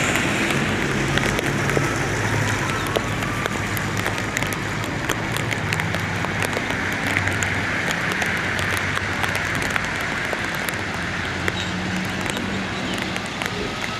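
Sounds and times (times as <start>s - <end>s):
heavy rain on pavement: 0.0s - 13.9s.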